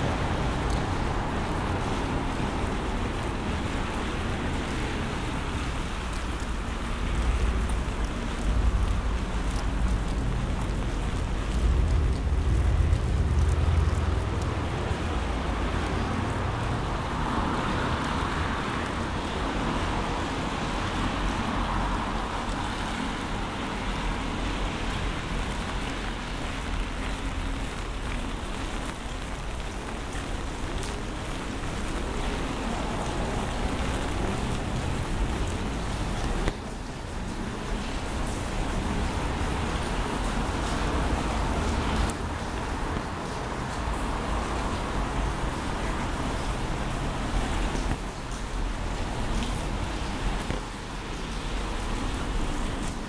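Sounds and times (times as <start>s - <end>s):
heavy rain hissing: 0.0s - 53.0s
vehicle rumble on wet road: 0.0s - 53.0s.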